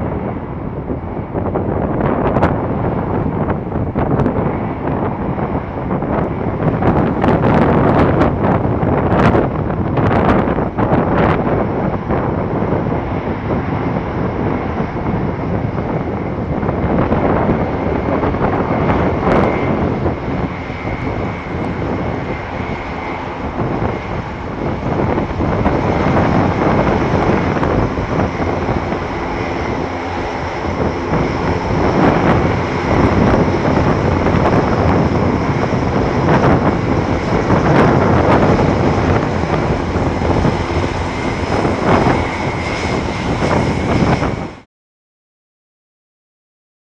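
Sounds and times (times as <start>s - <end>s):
steady high engine whine: 0.0s - 44.7s
turboprop engines roaring: 0.0s - 44.7s.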